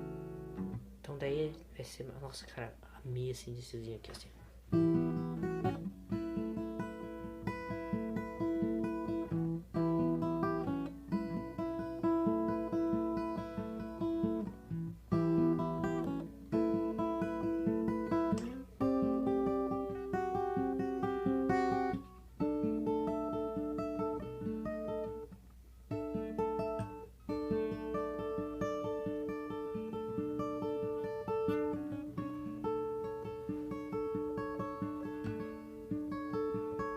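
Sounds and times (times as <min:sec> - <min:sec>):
acoustic guitar chords: 0:00.0 - 0:02.4, 0:04.2 - 0:36.9.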